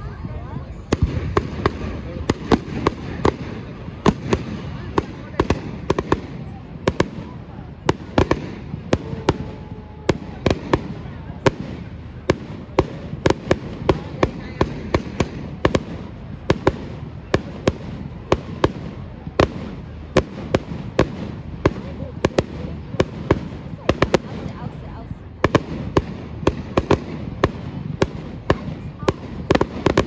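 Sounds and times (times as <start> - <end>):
continuous rumble: 0.0 - 30.0
fireworks bangs: 0.0 - 30.0.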